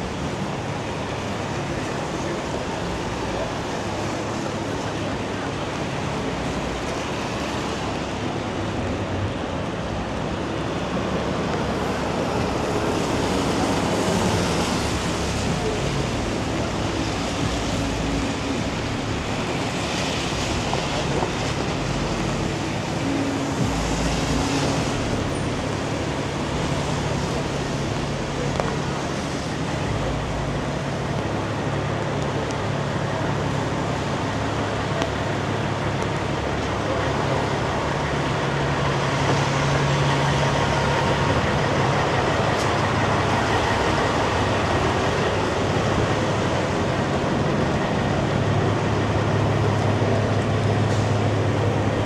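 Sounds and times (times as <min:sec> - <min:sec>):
low engine hum: 0:00.0 - 0:52.0
tyres hissing on wet road: 0:00.0 - 0:52.0.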